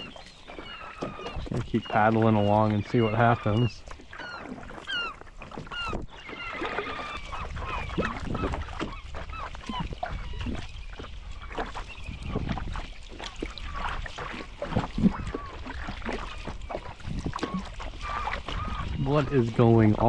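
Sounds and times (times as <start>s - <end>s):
gulls calling: 0.0s - 20.0s
paddle strokes splashing: 0.0s - 20.0s.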